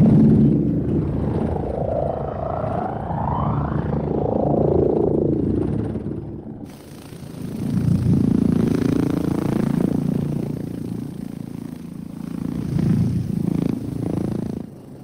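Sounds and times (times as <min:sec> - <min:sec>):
helicopter rotor chop: 0:00.0 - 0:15.0.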